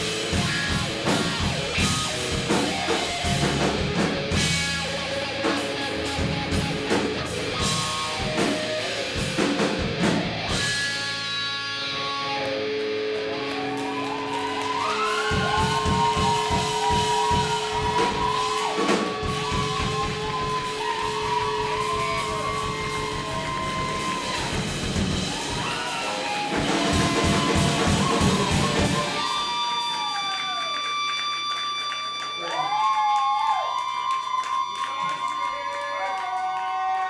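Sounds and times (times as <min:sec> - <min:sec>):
drum kit: 0:00.0 - 0:30.3
electric guitar: 0:00.0 - 0:33.0.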